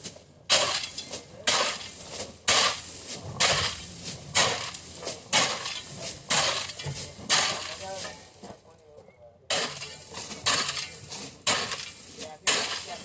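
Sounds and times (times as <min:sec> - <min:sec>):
crunching scraping rush: 0:00.0 - 0:13.0
sharp impacts: 0:00.5 - 0:08.2, 0:09.5 - 0:13.0.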